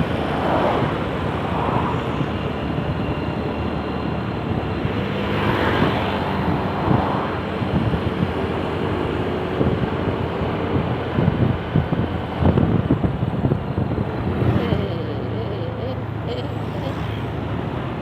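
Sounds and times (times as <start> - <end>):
wind buffeting microphone: 0.0 - 16.2
road traffic passing: 0.0 - 18.0.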